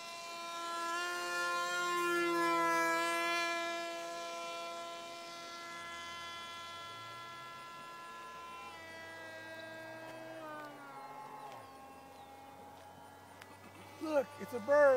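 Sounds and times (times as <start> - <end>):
model plane motor whining: 0.0 - 14.9.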